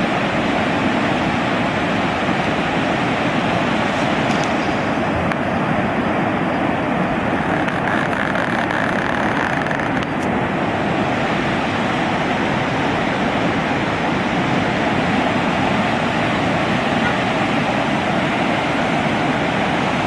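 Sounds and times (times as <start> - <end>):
flooded river rushing: 0.0 - 20.0.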